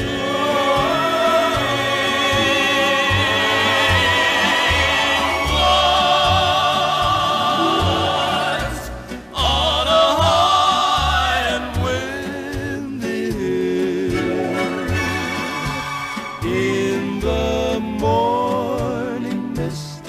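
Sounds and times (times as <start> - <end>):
orchestral music with vibrato: 0.0 - 20.0.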